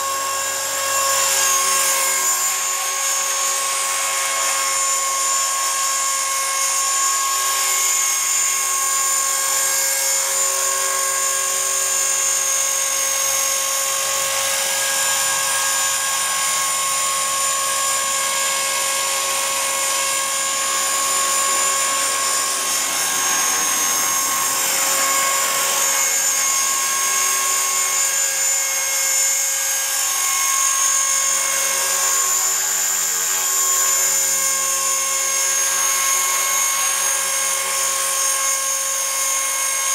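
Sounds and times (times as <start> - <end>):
high-pitched motor whine: 0.0 - 39.9.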